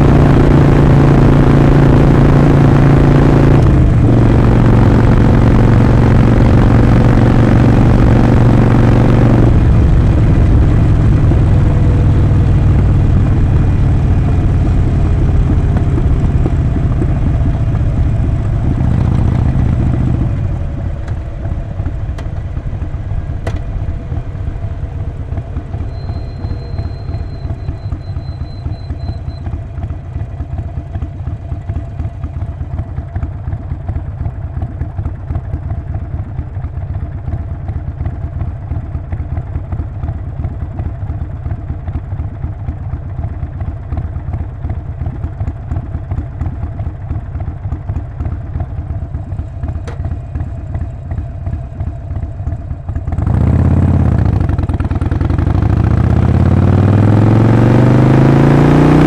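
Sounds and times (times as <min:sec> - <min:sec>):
motorcycle pulling away: 0:00.0 - 0:59.0
motorcycle engine idling: 0:09.5 - 0:57.3.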